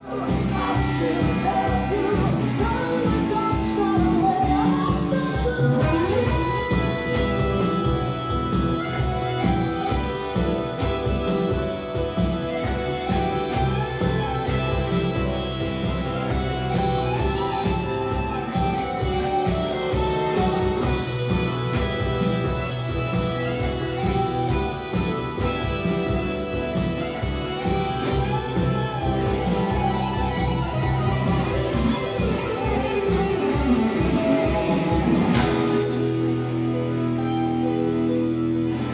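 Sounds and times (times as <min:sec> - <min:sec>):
backing track with steady beat: 0:00.0 - 0:38.9
distorted electric guitar lead: 0:00.0 - 0:38.9.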